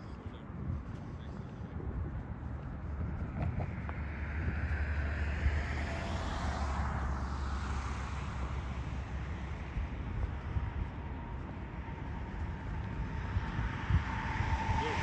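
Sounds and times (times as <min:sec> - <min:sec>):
passing vehicle: 0:00.0 - 0:15.0
steady low rumble: 0:00.0 - 0:15.0.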